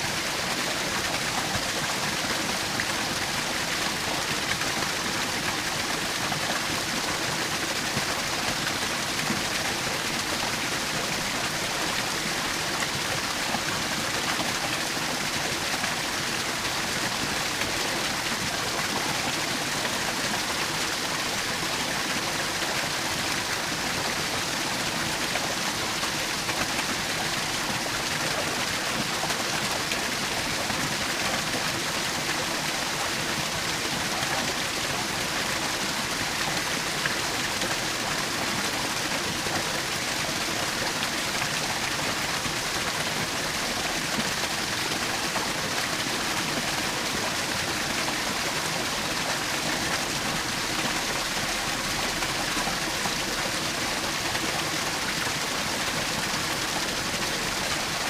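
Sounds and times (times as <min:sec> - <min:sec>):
waterfall splashing and rushing: 0:00.0 - 0:58.0.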